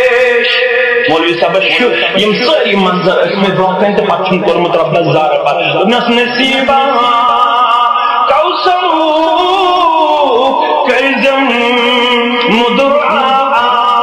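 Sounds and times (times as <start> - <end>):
man singing a religious chant: 0.0 - 14.0.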